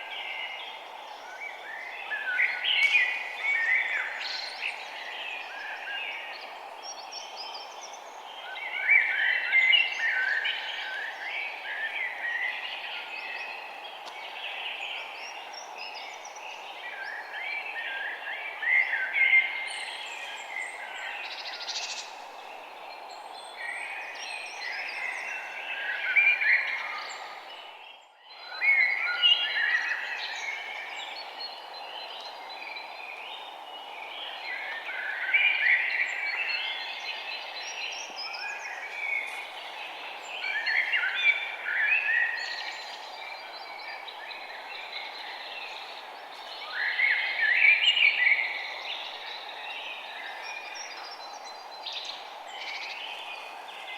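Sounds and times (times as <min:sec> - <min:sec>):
low background noise: 0:00.0 - 0:53.9
songbirds chirping: 0:00.0 - 0:53.9.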